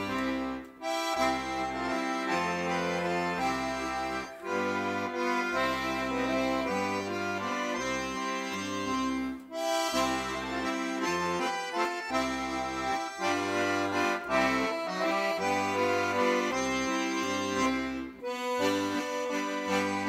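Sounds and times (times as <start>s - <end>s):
accordion music: 0.0s - 20.0s.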